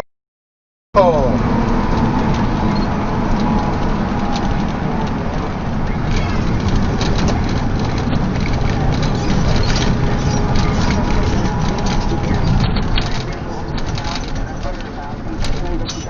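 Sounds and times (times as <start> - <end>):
vehicle road and engine noise: 1.0 - 16.0.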